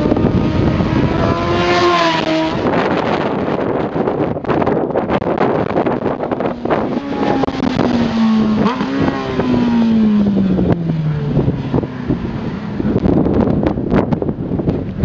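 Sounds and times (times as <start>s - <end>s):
motorcycle passing at speed: 0.0s - 4.3s, 5.5s - 15.0s.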